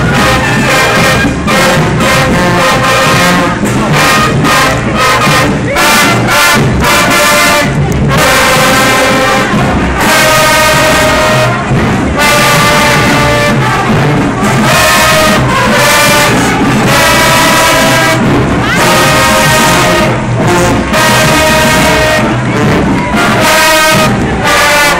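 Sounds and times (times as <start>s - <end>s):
marching band brass playing: 0.0s - 24.9s.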